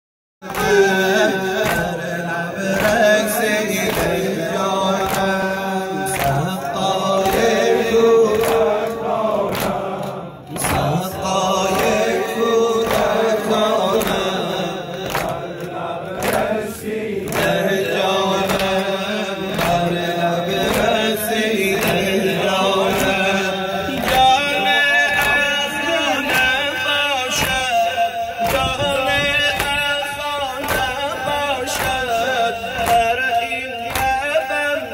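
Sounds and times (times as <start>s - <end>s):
crowd of men chanting: 0.4s - 34.9s
man chanting through microphone: 0.4s - 34.9s
rhythmic chest-beating slaps: 0.4s - 34.9s.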